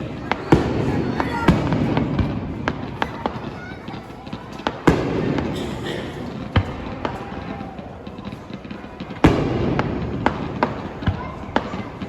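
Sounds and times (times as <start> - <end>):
firework crack: 0.0 - 12.0
fireworks booming: 0.0 - 12.0
small firework pops: 0.2 - 5.6, 6.3 - 12.0.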